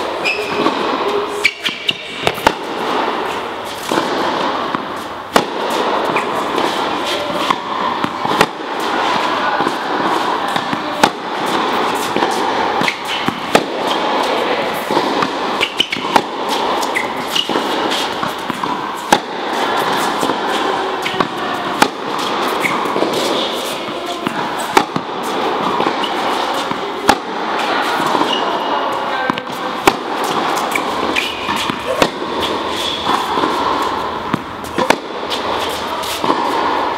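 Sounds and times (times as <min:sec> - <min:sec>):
steady background noise: 0:00.0 - 0:36.9
tennis ball struck by racket: 0:00.0 - 0:36.9.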